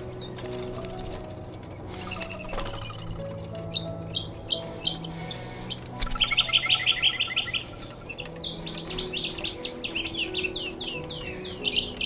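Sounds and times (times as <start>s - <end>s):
small birds chirping: 0.0s - 12.0s
soft background music: 0.0s - 12.0s.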